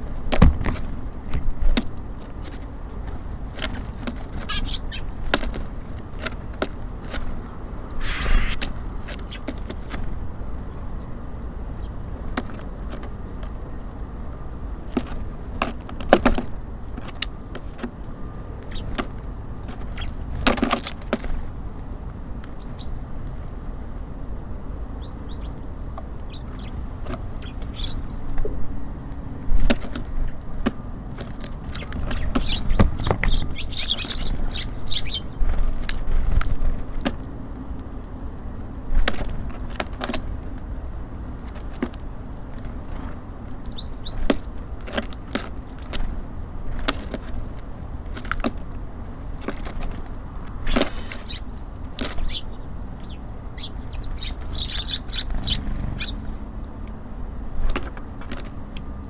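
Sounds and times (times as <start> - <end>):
city traffic rumble: 0.0 - 59.0
songbirds chirping: 0.0 - 59.0.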